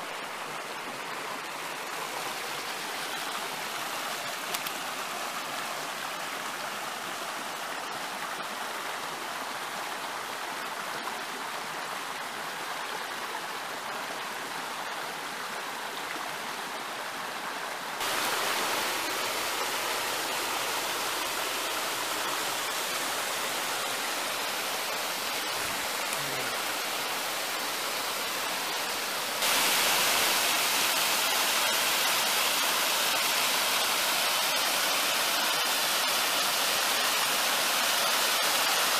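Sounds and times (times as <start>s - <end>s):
small waterfall pouring: 0.0s - 38.9s
stream rushing over rocks: 0.0s - 38.9s.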